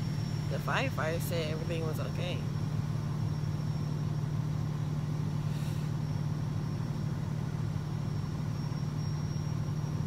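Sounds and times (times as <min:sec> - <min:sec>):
fire truck engine idling: 0:00.0 - 0:10.0.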